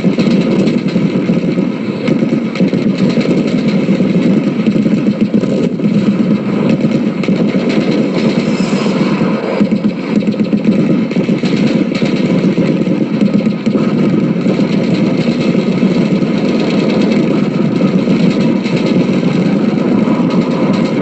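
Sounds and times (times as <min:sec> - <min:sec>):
rattling mechanical engine rumble: 0:00.0 - 0:21.0.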